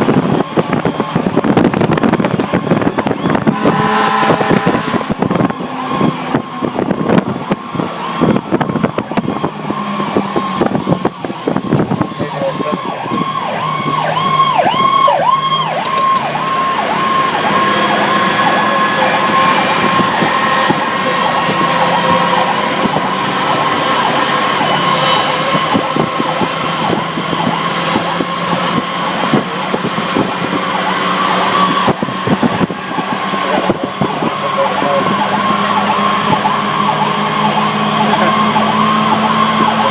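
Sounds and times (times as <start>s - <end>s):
fire truck siren yelping: 0.0s - 39.9s
road and engine noise: 0.0s - 39.9s.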